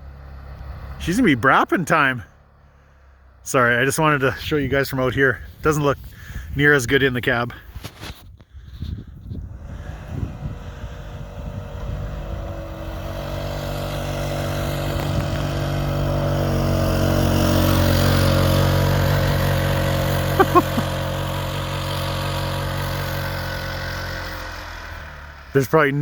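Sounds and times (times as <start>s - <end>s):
utility vehicle engine in snow: 0.0s - 26.0s.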